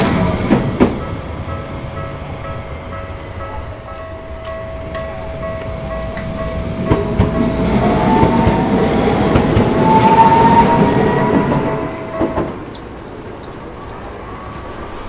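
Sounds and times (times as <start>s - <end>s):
train rumble and wheel clicks: 0.0s - 15.0s
train whine: 0.0s - 15.0s
crossing warning bell: 0.8s - 9.2s, 9.8s - 15.0s.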